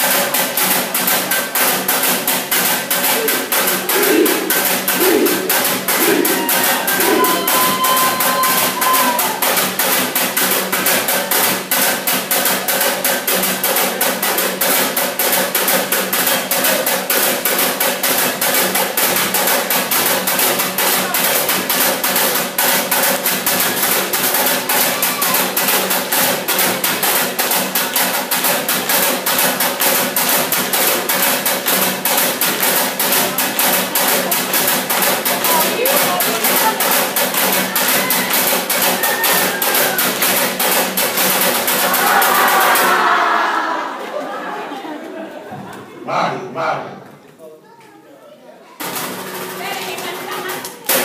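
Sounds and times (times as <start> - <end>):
fast percussion beat of knocks: 0.0 - 43.2, 48.8 - 51.0.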